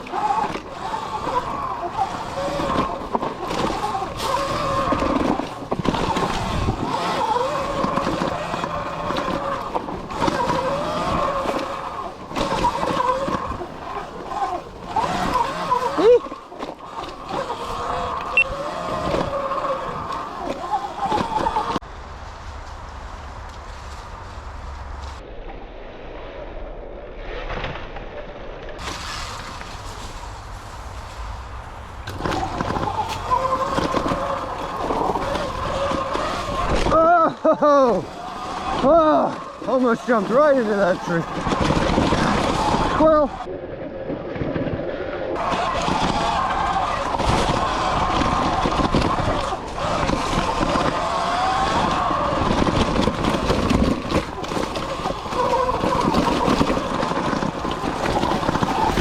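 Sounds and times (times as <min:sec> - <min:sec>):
electric motor whining: 0:00.0 - 0:21.8, 0:31.4 - 0:43.5, 0:45.4 - 0:59.0
bike rattling on rough trail: 0:00.0 - 0:25.2, 0:27.3 - 0:59.0.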